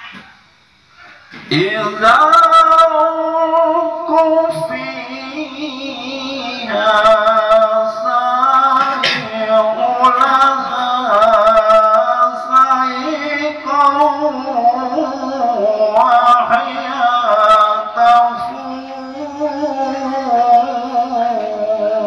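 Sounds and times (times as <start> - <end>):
person singing slow melody: 1.0 - 22.0.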